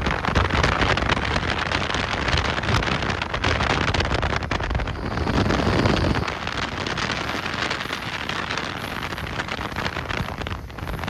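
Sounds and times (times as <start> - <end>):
train rushing at speed: 0.0 - 11.0
wind buffeting microphone: 0.0 - 11.0.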